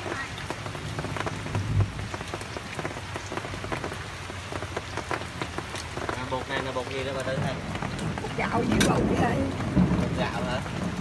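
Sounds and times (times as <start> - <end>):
oil crackling and sizzling: 0.0 - 11.0
rain falling on street: 0.0 - 11.0.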